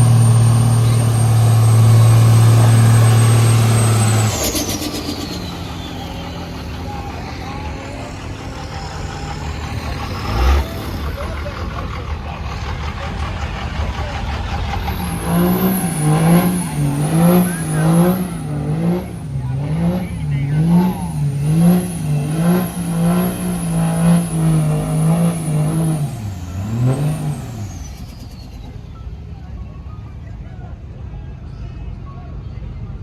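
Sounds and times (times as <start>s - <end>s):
diesel truck engine revving: 0.0s - 33.0s.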